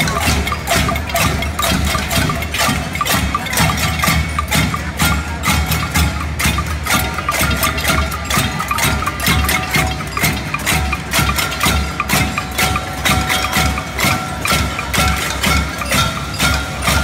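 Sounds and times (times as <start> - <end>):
people banging on metal pots: 0.0 - 17.0.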